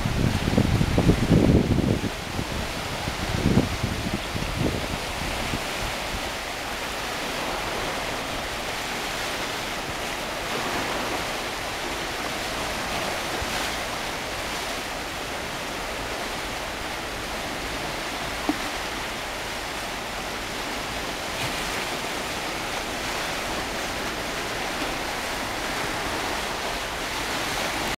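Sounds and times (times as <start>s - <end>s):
waves washing over pebbles: 0.0s - 27.9s.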